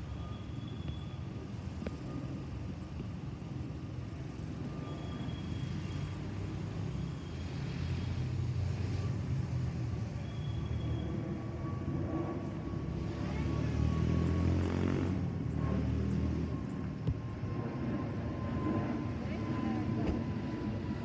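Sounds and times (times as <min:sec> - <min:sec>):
jet engines rumbling overhead: 0:00.0 - 0:21.0.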